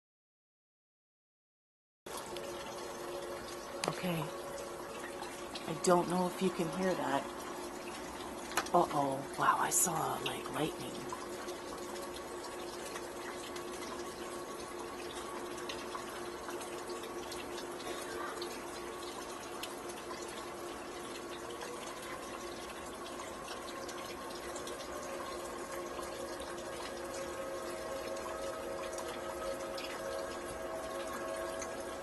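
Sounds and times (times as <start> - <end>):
distant warning sirens: 2.2 - 32.0.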